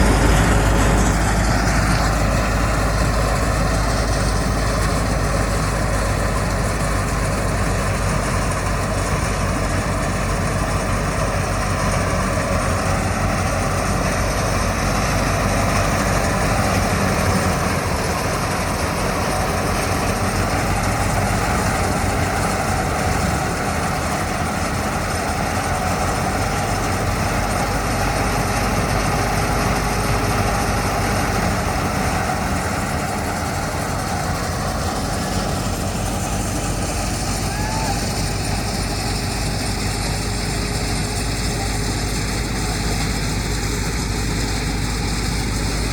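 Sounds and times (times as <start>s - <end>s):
harvesting machine engine droning: 0.0s - 45.9s.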